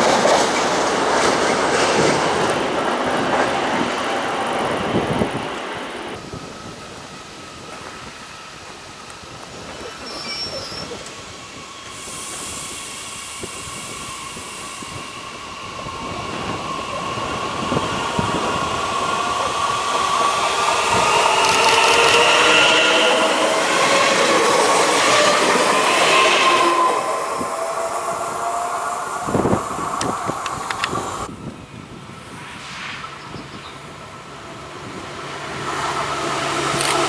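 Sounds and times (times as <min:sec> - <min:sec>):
passenger train passing: 0:00.0 - 0:37.0.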